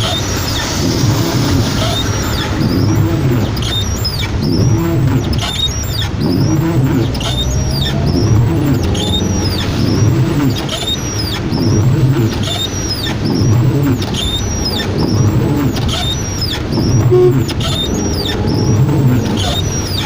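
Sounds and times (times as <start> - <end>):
car engine hum: 0.0 - 20.0
road noise: 0.0 - 20.0
windshield wipers squeaking: 0.0 - 20.0.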